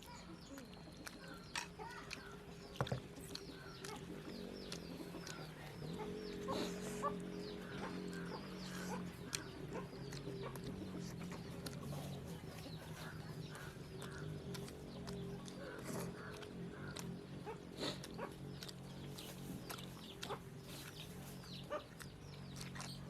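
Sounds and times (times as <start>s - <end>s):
chickens clucking: 0.0s - 23.0s
chicks peeping: 0.0s - 23.0s
steady low hum: 0.0s - 23.0s.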